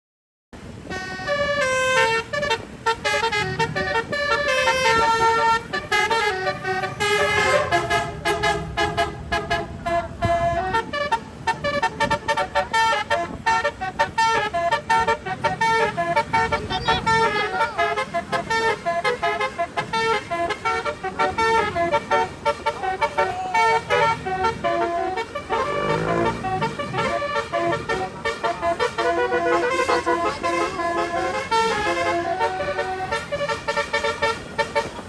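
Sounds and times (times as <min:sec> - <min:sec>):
multi-tone bus horn tune: 0:00.6 - 0:35.0.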